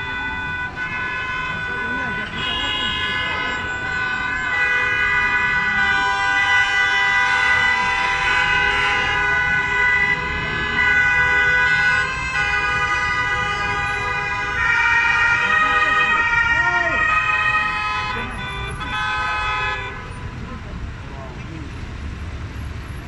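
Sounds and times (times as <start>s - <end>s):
many car horns sounding: 0.0s - 23.0s
traffic rumble: 0.0s - 23.0s.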